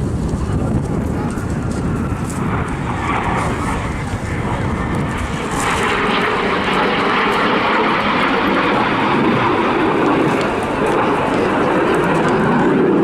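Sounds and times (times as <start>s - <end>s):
jet engine rushing in flight: 0.0s - 13.0s.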